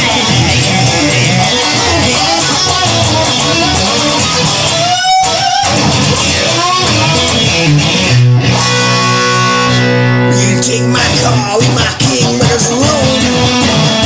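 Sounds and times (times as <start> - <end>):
guitar chord ringing: 0.0 - 14.0
song with electric guitar: 0.0 - 14.0.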